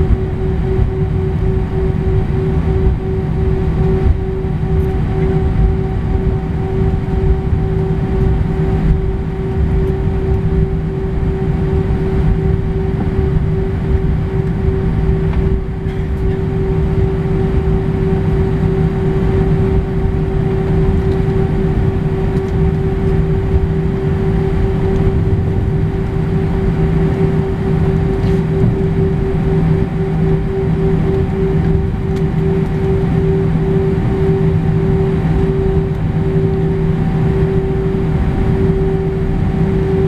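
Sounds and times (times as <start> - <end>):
jet engines humming in cabin: 0.0 - 40.0.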